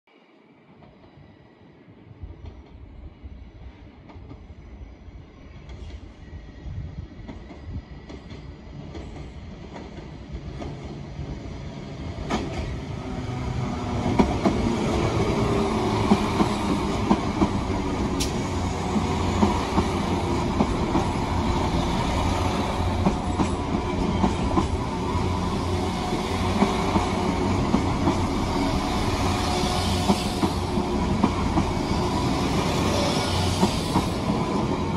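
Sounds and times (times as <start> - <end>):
diesel train passing: 0.7 - 34.9.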